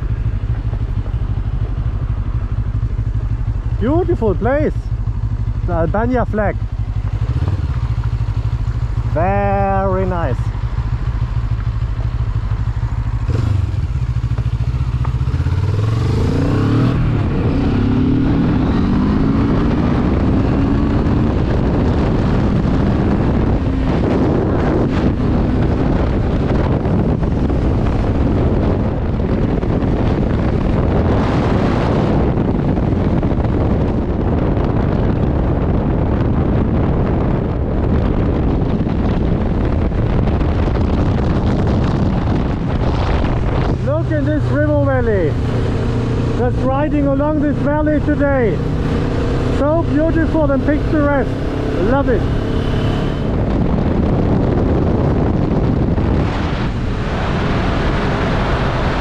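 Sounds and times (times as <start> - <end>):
motorcycle engine revving: 0.0 - 59.0
wind and road noise: 0.0 - 59.0.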